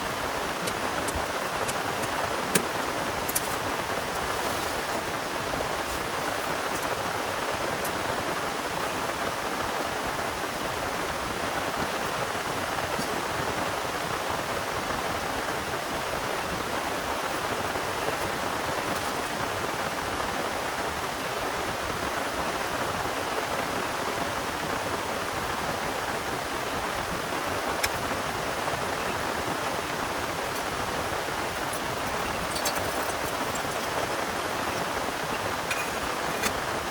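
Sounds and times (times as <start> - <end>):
heavy rain hissing: 0.0 - 36.9
raindrops ticking nearby: 0.0 - 36.9.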